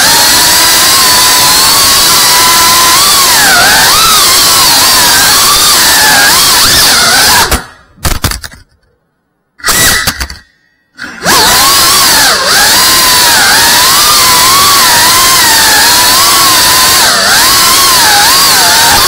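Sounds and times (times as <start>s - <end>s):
drone motors whining: 0.0s - 7.9s, 11.0s - 19.0s.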